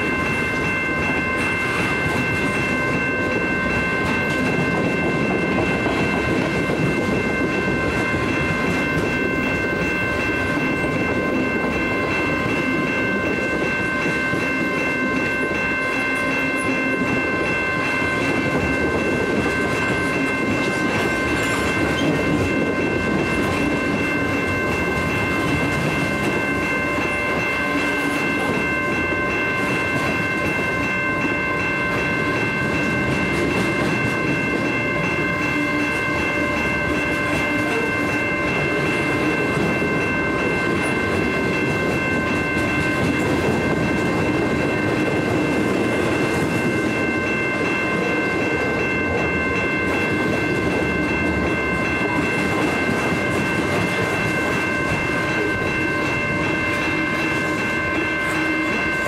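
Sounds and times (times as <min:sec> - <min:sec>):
freight train wheels clattering on rails: 0:00.0 - 0:59.0.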